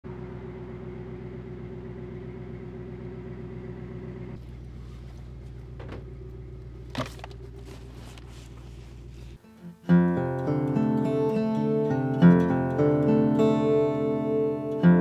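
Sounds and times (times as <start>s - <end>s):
truck engine idling: 0.1s - 14.8s.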